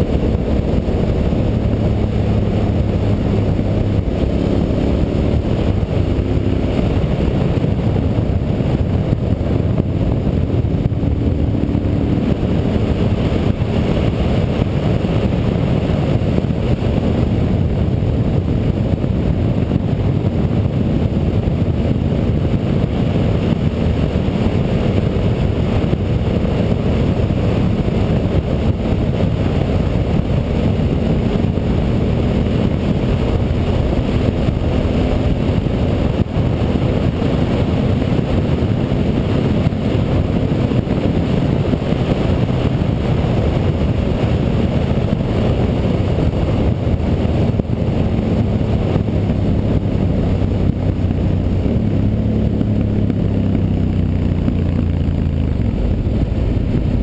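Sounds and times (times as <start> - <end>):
motorcycle engine droning: 0.0 - 57.0
wind rush on microphone: 0.0 - 57.0.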